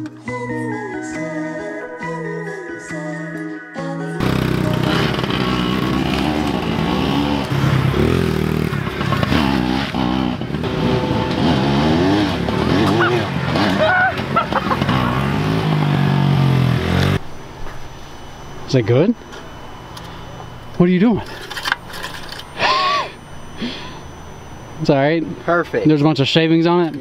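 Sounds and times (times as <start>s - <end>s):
dirt bike engine revving: 4.2s - 26.8s.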